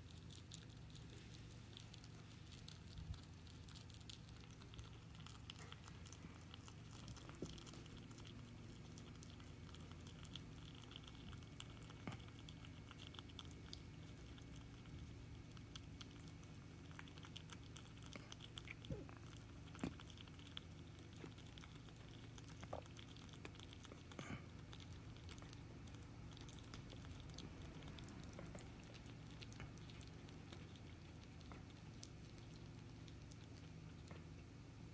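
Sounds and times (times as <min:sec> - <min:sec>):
rabbit chewing: 0:00.0 - 0:34.9.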